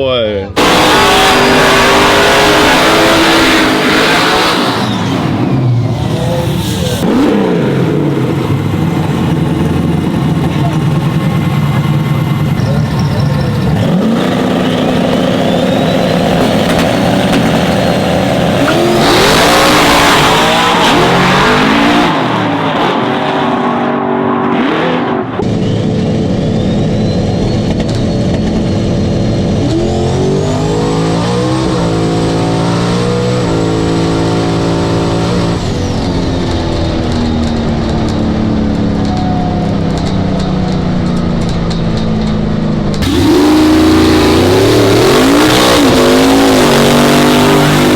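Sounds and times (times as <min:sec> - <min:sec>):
high engine whine: 0:00.0 - 0:47.9
race truck engines revving: 0:00.0 - 0:47.9.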